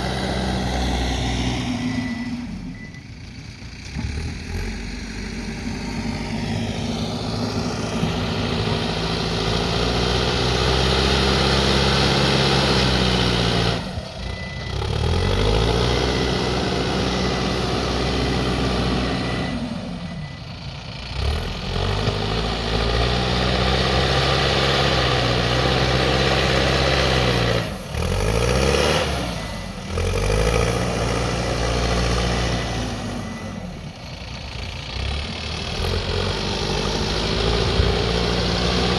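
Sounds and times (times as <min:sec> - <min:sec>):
diesel engine revving under load: 0:00.0 - 0:38.9.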